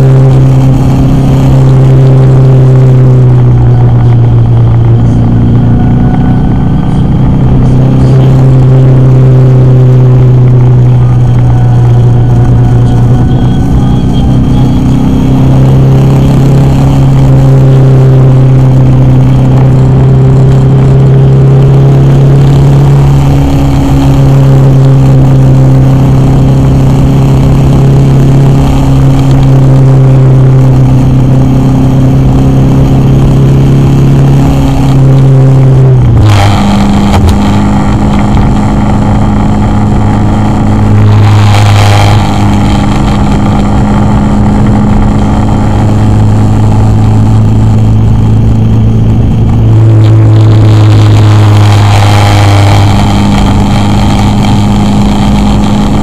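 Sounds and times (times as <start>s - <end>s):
car engine drone: 0.0s - 56.0s
road noise inside car: 0.0s - 56.0s.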